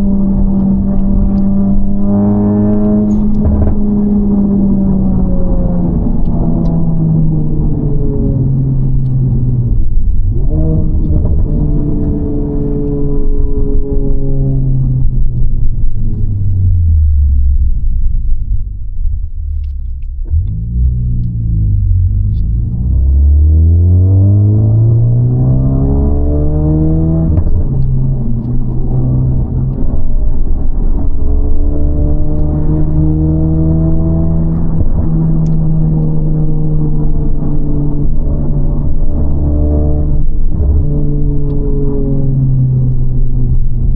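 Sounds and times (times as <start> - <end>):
car engine rumbling: 0.0 - 43.9.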